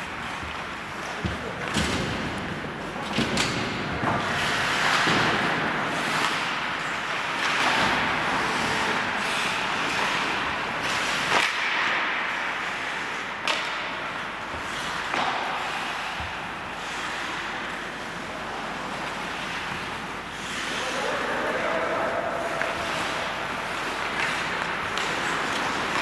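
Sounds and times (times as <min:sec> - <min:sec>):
hockey sticks and puck clacking: 0:00.0 - 0:26.0
skates scraping on ice: 0:00.0 - 0:26.0.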